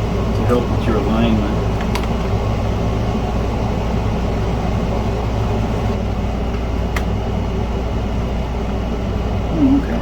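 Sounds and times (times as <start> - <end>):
machine hum with rushing air: 0.0 - 10.0.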